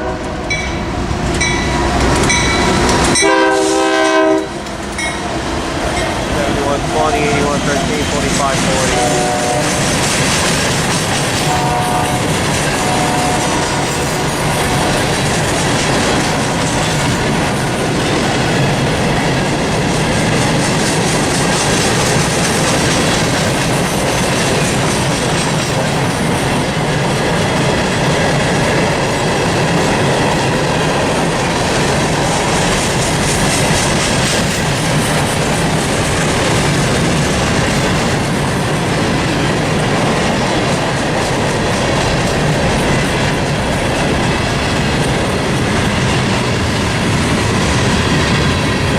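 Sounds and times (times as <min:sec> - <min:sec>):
freight train wheels on rails: 0:00.0 - 0:48.9
wheels clickety-clack over track: 0:00.5 - 0:48.9.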